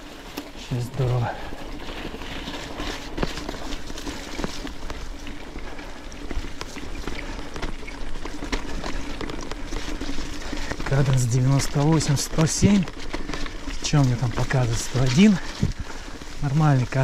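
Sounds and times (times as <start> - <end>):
bike clicks and rattles: 0.0 - 17.0
bike tyre noise on rough track: 0.0 - 17.0.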